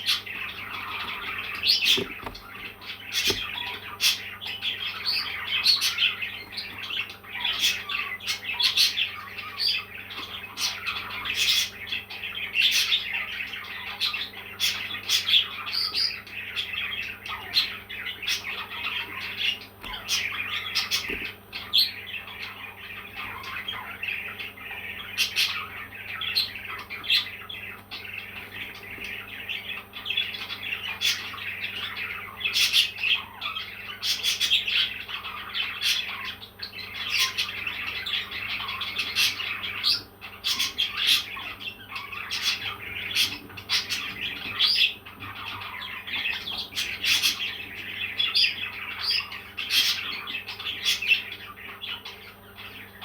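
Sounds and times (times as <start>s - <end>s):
parrots chirping and squawking: 0.0s - 53.0s.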